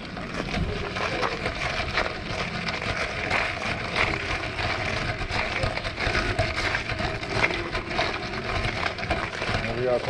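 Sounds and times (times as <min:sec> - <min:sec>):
footsteps crunching on gravel: 0:00.0 - 0:10.0.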